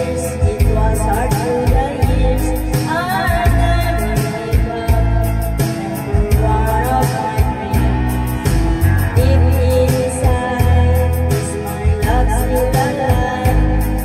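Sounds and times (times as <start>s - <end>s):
backing track with bass and drums: 0.0s - 14.0s
woman singing into microphone: 0.0s - 14.0s.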